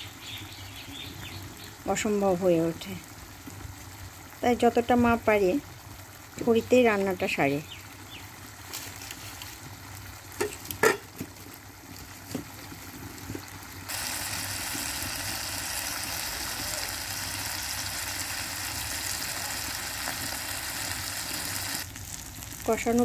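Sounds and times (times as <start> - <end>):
meat sizzling in a wok: 0.0 - 23.0.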